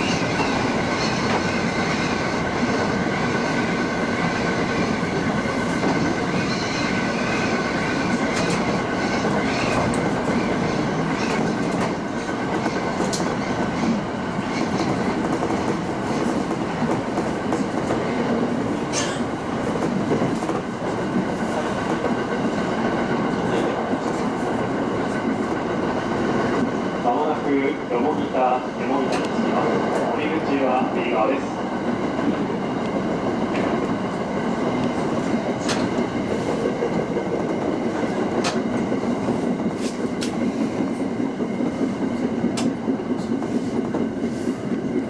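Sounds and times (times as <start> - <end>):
clickety-clack of rail joints: 0.0 - 45.0
train wheels rumbling on rails: 0.0 - 45.0.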